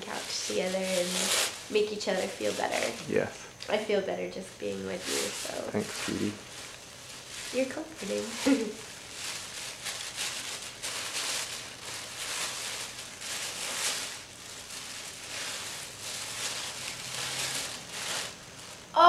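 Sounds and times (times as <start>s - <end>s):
wrapping paper crinkling: 0.0s - 3.1s, 4.8s - 19.0s.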